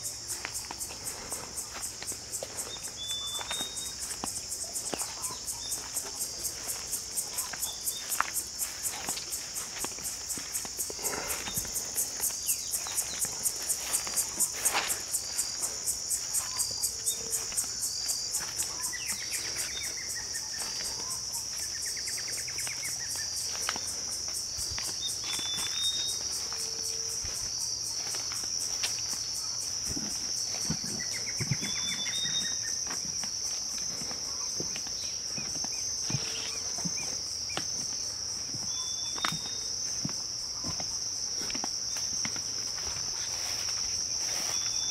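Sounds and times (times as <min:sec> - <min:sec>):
footsteps through grass and leaves: 0:00.0 - 0:44.9
insects chorus: 0:00.0 - 0:44.9.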